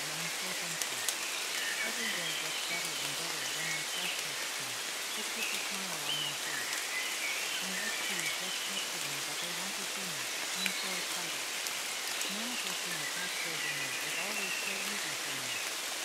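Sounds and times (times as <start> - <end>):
quiet low voice speaking: 0.0 - 1.1, 1.8 - 6.6, 7.6 - 11.4, 12.2 - 15.6
steady rain: 0.0 - 16.0.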